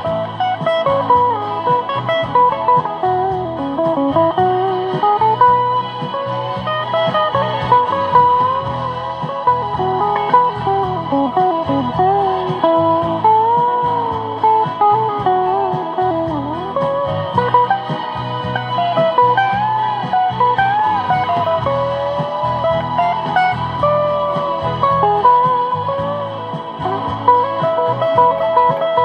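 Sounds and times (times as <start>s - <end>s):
low guitar accompaniment: 0.0s - 29.0s
sliding guitar lead melody: 0.0s - 29.0s.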